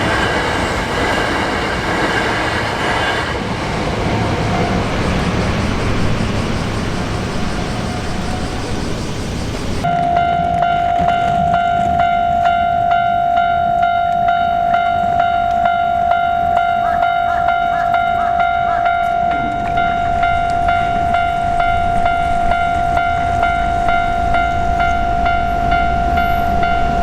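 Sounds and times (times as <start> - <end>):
railroad crossing bell ringing: 4.0 - 27.0.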